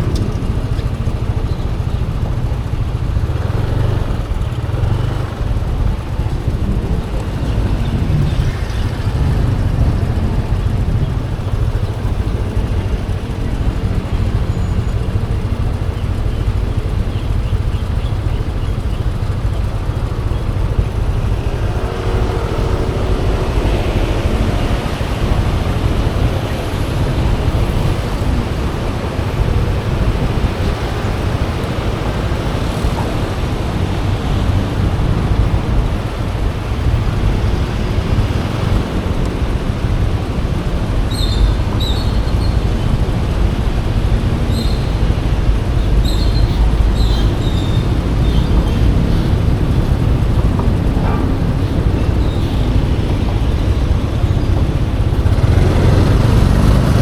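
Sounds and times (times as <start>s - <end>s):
road traffic: 0.0s - 57.0s
scooter engine: 0.0s - 57.0s
wind rumble on microphone: 0.0s - 57.0s.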